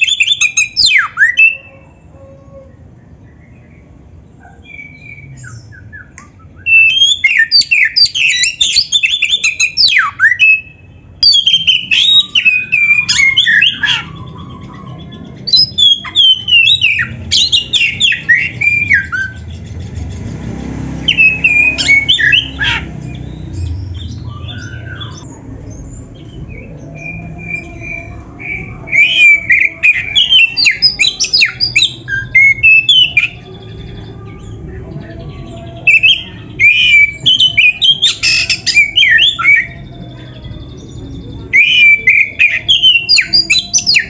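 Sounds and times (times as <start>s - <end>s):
songbird whistled phrases: 0.0s - 1.9s, 4.6s - 19.5s, 21.1s - 25.3s, 26.2s - 33.4s, 35.8s - 40.0s, 40.8s - 44.0s.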